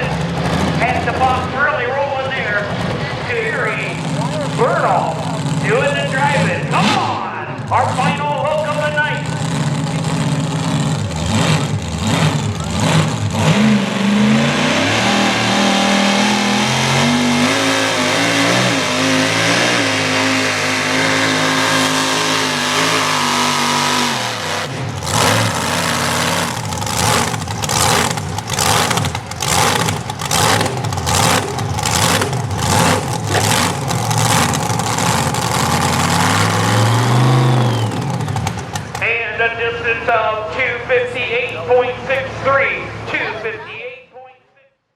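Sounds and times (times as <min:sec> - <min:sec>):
pulling vehicle engine at full throttle: 0:00.0 - 0:43.7.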